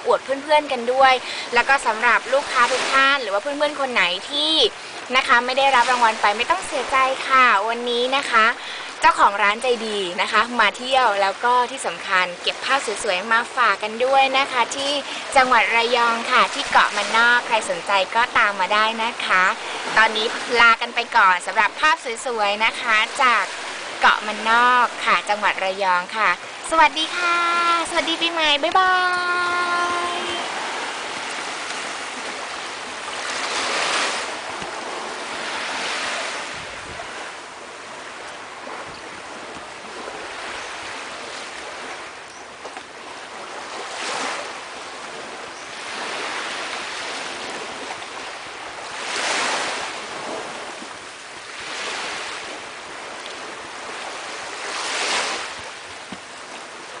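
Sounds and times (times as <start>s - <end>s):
waves breaking on sandy shore: 0.0s - 57.0s.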